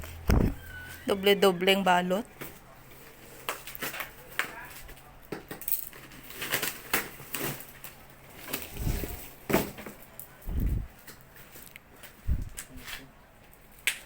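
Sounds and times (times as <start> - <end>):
packaging crinkling and rustling: 2.3 - 14.0.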